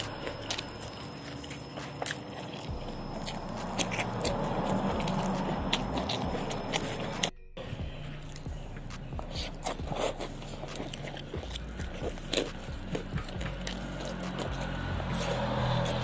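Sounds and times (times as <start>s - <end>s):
chewing with wet smacking: 0.0s - 16.0s.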